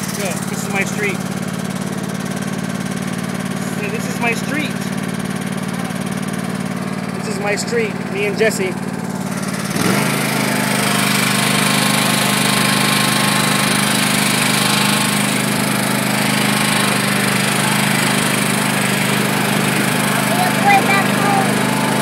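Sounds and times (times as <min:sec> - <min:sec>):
riding lawn mower engine humming: 0:00.0 - 0:22.0.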